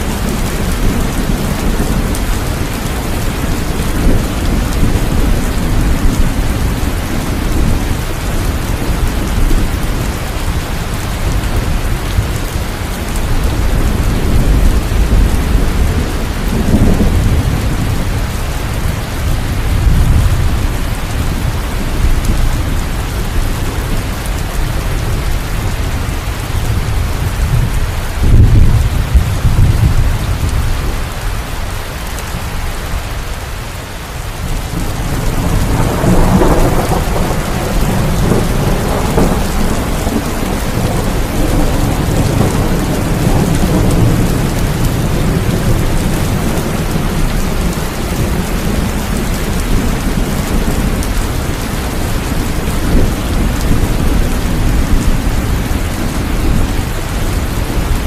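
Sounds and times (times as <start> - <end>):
rolling thunder: 0.0 - 31.2, 34.4 - 58.0
heavy rain: 0.0 - 58.0.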